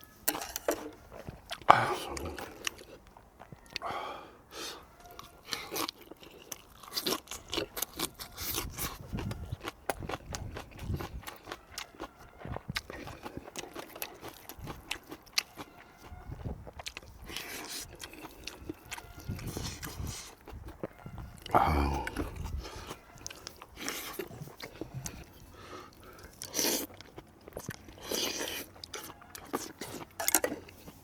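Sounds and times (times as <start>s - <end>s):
person chewing and crunching: 0.0s - 31.0s.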